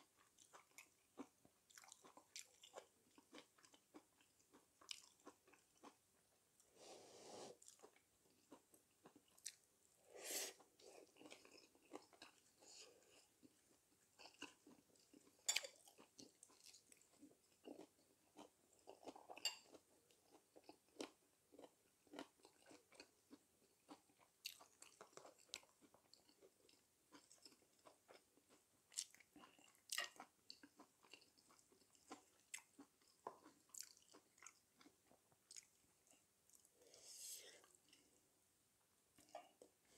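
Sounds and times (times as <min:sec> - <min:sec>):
person chewing food: 0:00.0 - 0:38.2, 0:39.1 - 0:39.9.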